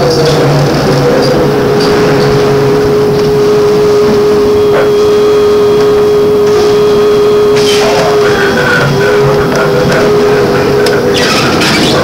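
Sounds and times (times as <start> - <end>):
bus running noise: 0.0 - 12.0
electrical whine: 0.0 - 12.0.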